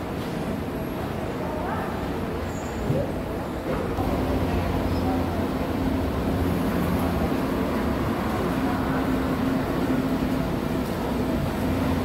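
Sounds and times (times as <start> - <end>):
subway station rumble and hum: 0.0 - 12.0.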